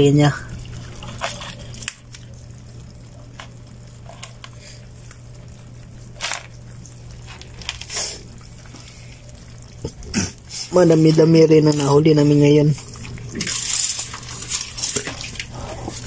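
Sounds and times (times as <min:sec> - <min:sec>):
crabs clicking and scratching: 0:00.0 - 0:16.0
steady low hum: 0:00.0 - 0:16.0.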